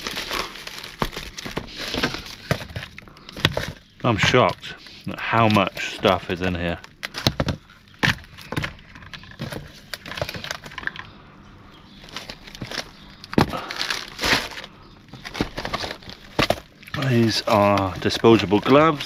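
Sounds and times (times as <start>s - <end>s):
packaging rustling: 0.0s - 11.1s, 11.9s - 19.0s.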